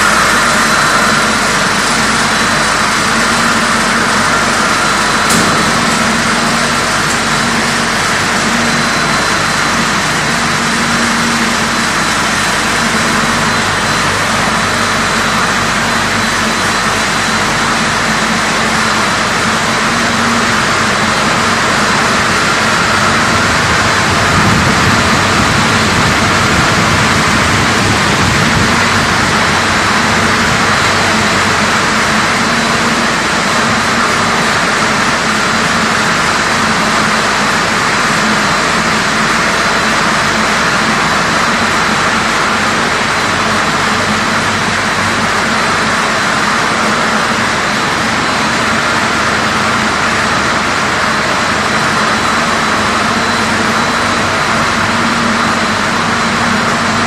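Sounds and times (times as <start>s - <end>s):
loud machine noise: 0.0s - 57.0s
steady hum: 0.0s - 57.0s.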